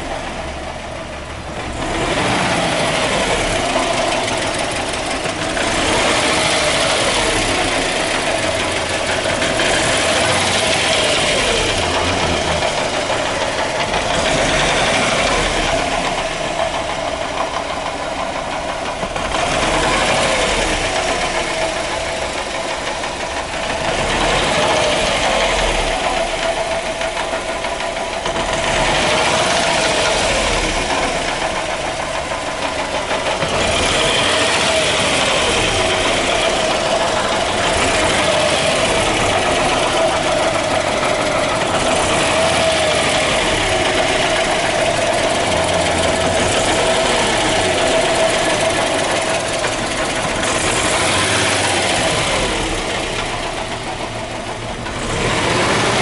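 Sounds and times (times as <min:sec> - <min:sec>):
car engine running: 0:00.0 - 0:56.0
whine from underneath car: 0:00.0 - 0:56.0.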